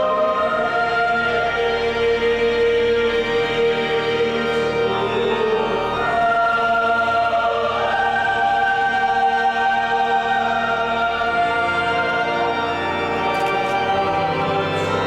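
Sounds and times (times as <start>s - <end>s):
choir singing: 0.0s - 15.0s
organ: 0.0s - 15.0s.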